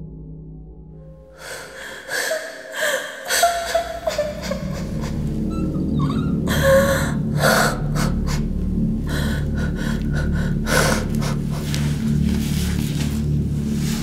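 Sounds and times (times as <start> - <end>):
steady low hum: 1.1 - 14.0
woman gasping and breathing hard: 1.3 - 12.8.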